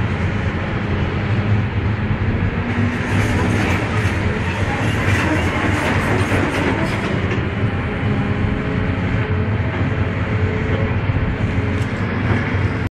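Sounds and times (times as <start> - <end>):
excavator diesel engine drone: 0.0 - 12.9.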